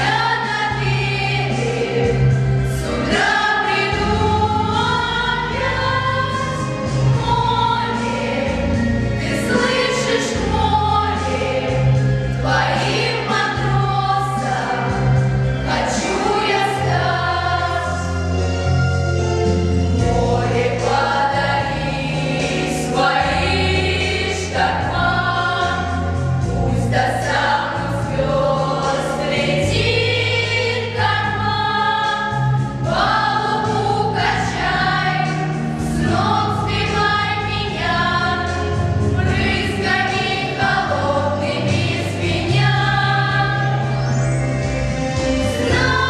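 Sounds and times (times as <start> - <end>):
girls singing together: 0.0 - 18.2, 20.0 - 44.0, 45.4 - 46.0
instrumental accompaniment with bass: 0.0 - 46.0.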